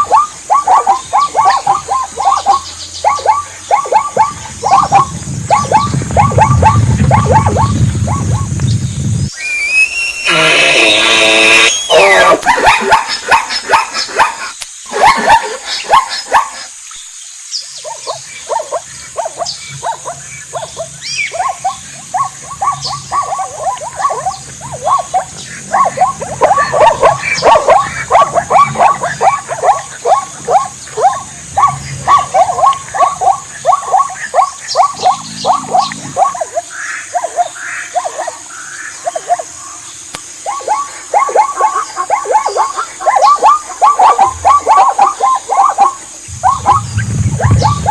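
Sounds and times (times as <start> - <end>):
animals calling rapidly: 0.0 - 8.6, 9.2 - 16.8, 17.8 - 47.9.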